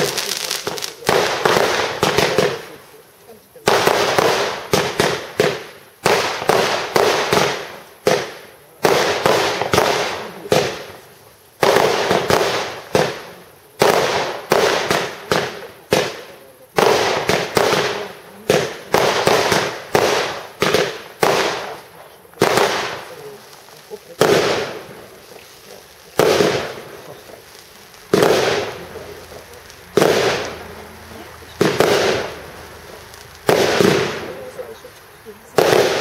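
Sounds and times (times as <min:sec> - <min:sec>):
fireworks bangs echoing: 0:00.0 - 0:36.0.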